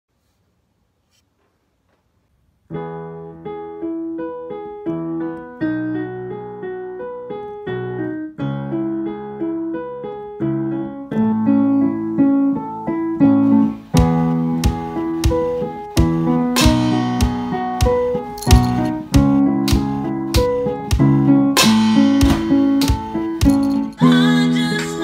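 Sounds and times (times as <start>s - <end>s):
digital piano playing: 2.7s - 25.0s.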